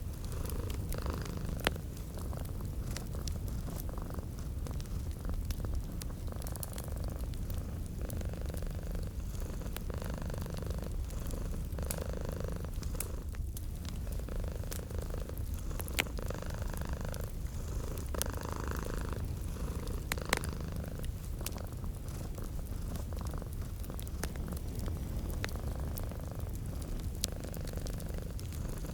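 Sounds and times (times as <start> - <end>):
cat purring: 0.0 - 28.9
wood fire crackling: 0.0 - 28.9.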